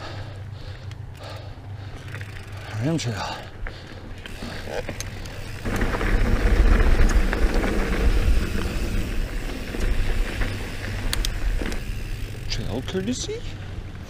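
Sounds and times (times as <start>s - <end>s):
bike clicks and rattles: 0.0s - 14.0s
bike tyres rolling on gravel: 0.0s - 14.0s.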